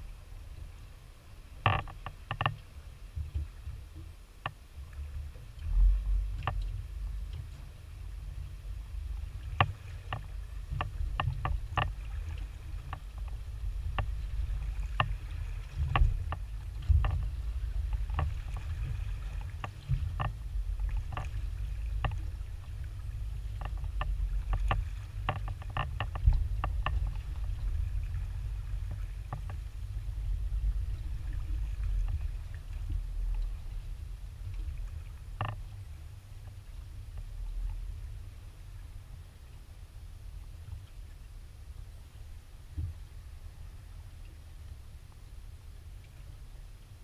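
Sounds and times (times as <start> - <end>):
water rumbling around boat: 0.0 - 47.0
sharp ticks and knocks on boat: 1.4 - 38.3, 40.5 - 43.2.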